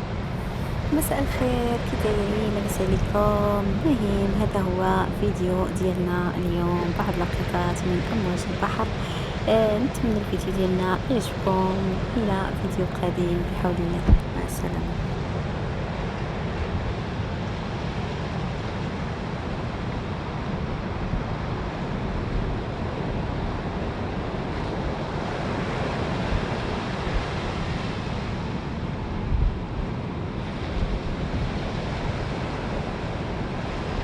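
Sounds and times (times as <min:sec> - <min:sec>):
waves breaking on beach: 0:00.0 - 0:34.0.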